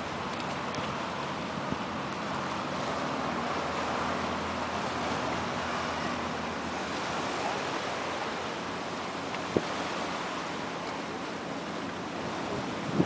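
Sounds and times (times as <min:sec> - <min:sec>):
sea water rushing: 0:00.0 - 0:13.0
wind: 0:00.0 - 0:13.0.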